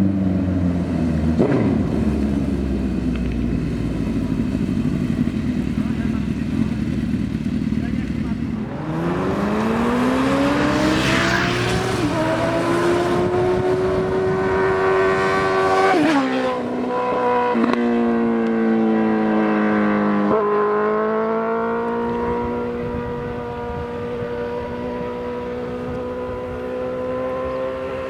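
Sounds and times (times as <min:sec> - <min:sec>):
motorcycle engine revving through gears: 0:00.0 - 0:28.0.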